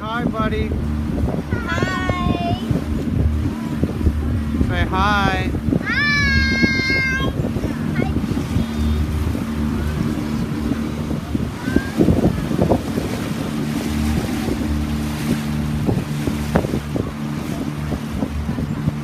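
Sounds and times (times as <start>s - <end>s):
boat motor humming: 0.0s - 19.0s
water rushing along hull: 0.0s - 19.0s
wind buffeting microphone: 0.0s - 19.0s.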